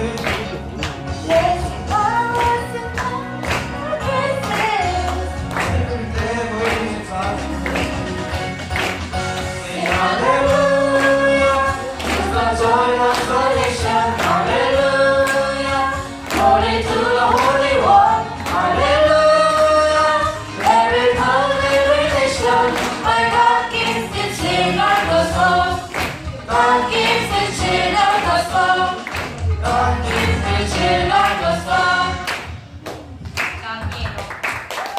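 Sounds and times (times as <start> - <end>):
youth choir singing worship song: 0.0 - 32.6
instrumental accompaniment with beat: 0.0 - 33.7.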